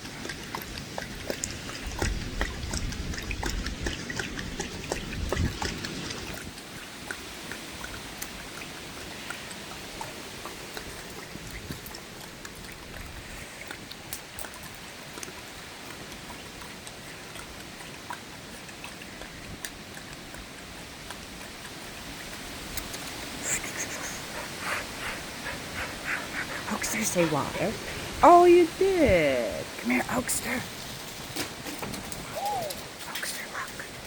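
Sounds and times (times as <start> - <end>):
dog drinking: 0.0 - 28.7
water drips and splashes: 0.0 - 34.0
water trickling: 0.0 - 34.0.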